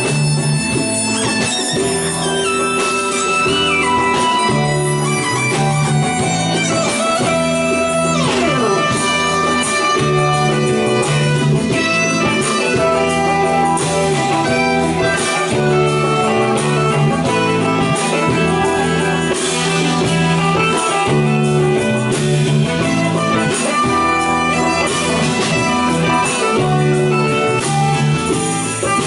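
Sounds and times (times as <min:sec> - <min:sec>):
electric guitar: 0:00.0 - 0:29.0
live band playing instrumental: 0:00.0 - 0:29.0.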